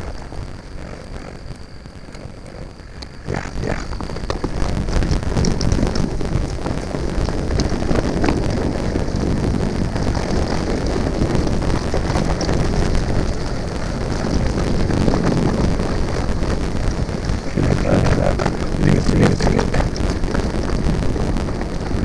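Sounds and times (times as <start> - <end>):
bike rattling over ground: 0.0 - 22.0
wind buffeting microphone: 0.0 - 22.0.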